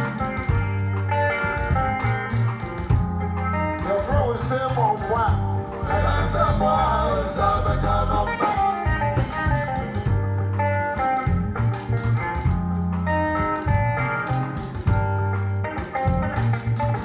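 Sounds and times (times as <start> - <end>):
bass guitar notes: 0.0 - 17.0
drum kit beat: 0.0 - 17.0
electric guitar melody: 0.0 - 17.0.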